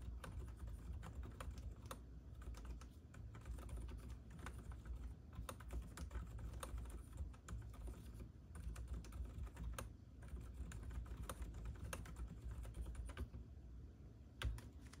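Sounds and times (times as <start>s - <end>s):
typing on mechanical keyboard: 0.0s - 13.4s, 14.4s - 15.0s.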